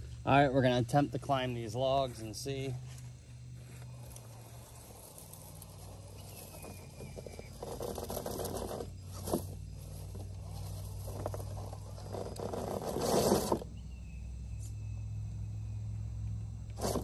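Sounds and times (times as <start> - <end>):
tires scraping on wood: 0.0 - 14.6, 16.7 - 17.0.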